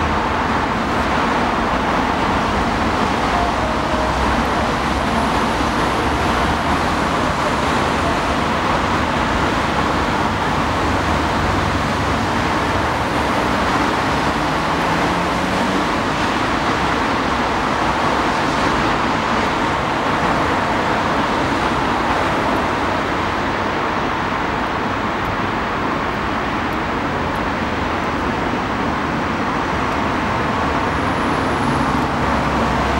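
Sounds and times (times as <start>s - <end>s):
cars driving past: 0.0s - 32.9s.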